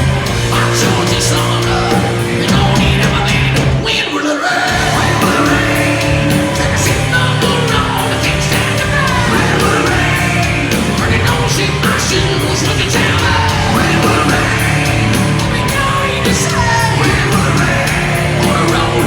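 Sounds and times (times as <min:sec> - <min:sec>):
hard rock band playing live: 0:00.0 - 0:19.0
person singing and yelling: 0:00.0 - 0:19.0.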